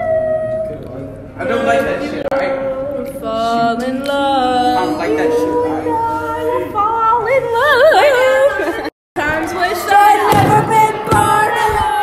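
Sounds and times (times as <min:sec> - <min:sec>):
girls singing a cappella: 0:01.4 - 0:12.0.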